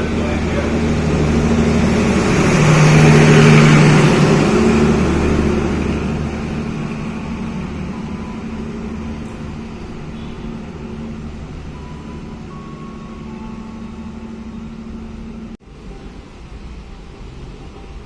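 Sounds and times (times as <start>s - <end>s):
diesel train engine hum: 0.0s - 18.0s
train wheel and rail noise: 0.0s - 18.0s.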